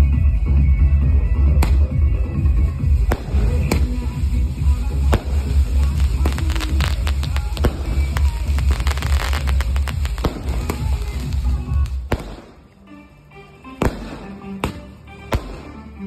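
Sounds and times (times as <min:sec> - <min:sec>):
fireworks crackling and banging: 0:00.0 - 0:12.9, 0:13.5 - 0:16.0
music: 0:00.0 - 0:16.0.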